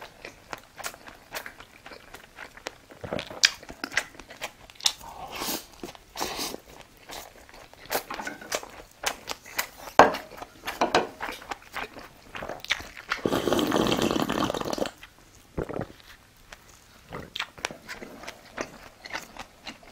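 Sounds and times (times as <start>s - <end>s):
chewing and crunching: 0.0s - 13.4s, 15.0s - 19.9s.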